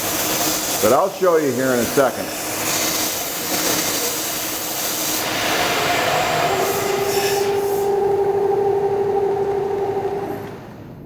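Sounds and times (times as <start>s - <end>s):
end mill cutting steel: 0.0s - 10.9s.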